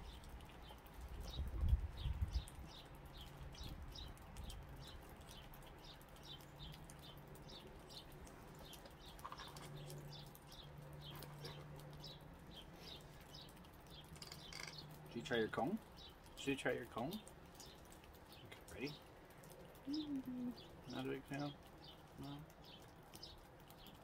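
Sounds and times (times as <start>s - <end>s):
small bird chirping: 0.0s - 16.5s, 19.7s - 24.0s.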